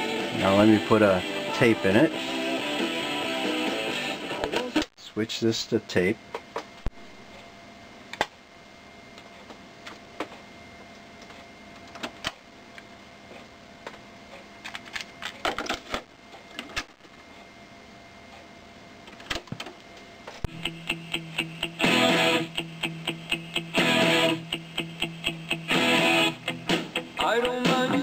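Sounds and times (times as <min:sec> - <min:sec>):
faint electrical hum: 0:03.8 - 0:28.0.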